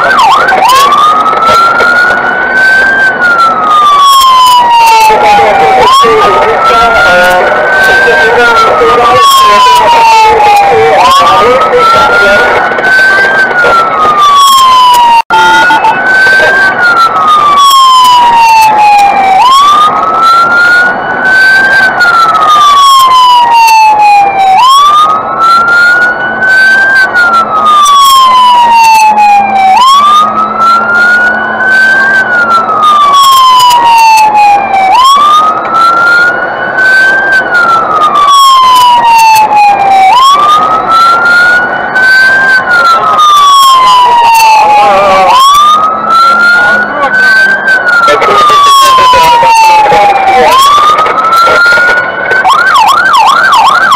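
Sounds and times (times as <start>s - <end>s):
fire engine siren wailing: 0.0s - 53.9s.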